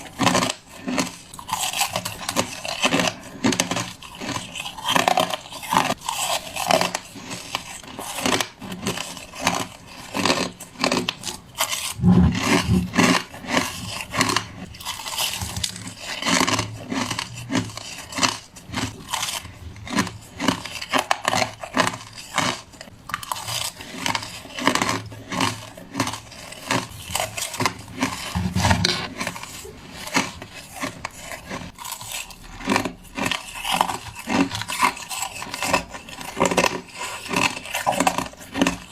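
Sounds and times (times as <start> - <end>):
crushed ice crunching: 0.0 - 38.9.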